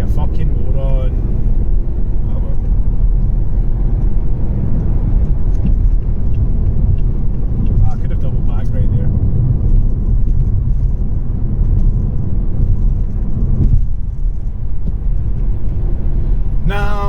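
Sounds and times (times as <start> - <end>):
car engine rumble: 0.0 - 17.0
tyre road noise: 0.0 - 17.0.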